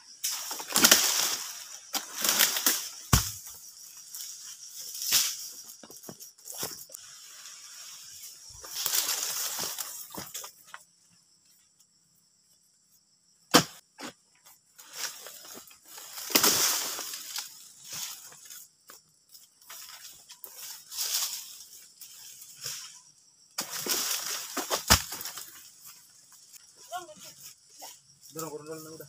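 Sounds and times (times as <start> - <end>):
palm fronds rustling and scraping: 0.1 - 10.7, 14.8 - 29.0.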